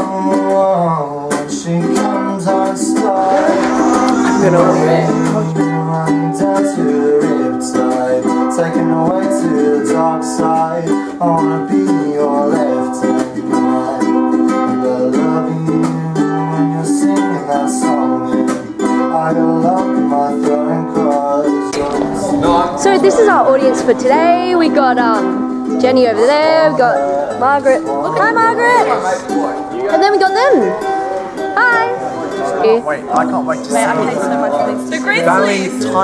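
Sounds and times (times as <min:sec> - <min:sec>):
plucked string background music: 0:00.0 - 0:36.0.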